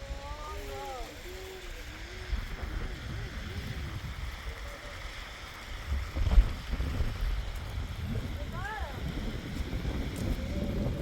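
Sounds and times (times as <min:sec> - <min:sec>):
low rumbling wind: 0:00.0 - 0:11.0.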